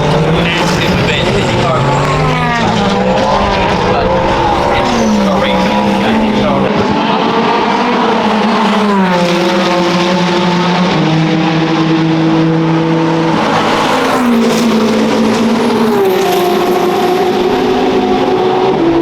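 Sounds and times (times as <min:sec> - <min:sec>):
race car engines shifting gears: 0:00.0 - 0:19.0.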